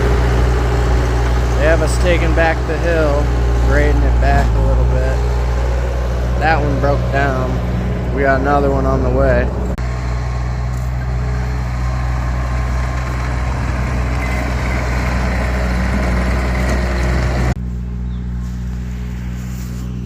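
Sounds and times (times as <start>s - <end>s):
truck engine humming: 0.0s - 20.0s.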